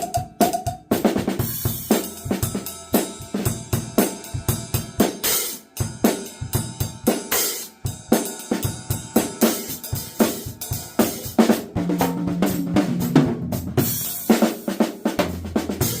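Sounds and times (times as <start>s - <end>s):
drum kit playing groove: 0.0s - 16.0s.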